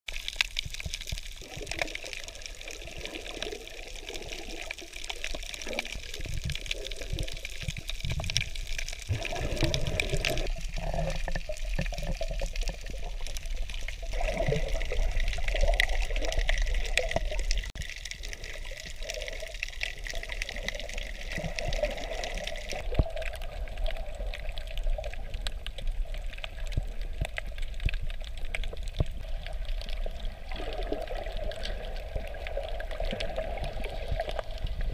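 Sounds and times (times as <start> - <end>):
bubbling: 0.1 - 34.9
underwater water wash: 0.1 - 34.9.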